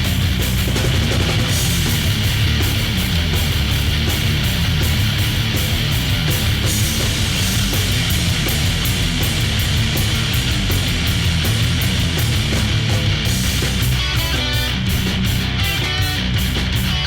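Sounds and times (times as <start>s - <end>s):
distorted rock guitar: 0.0s - 17.0s
driving drum beat: 0.0s - 17.0s.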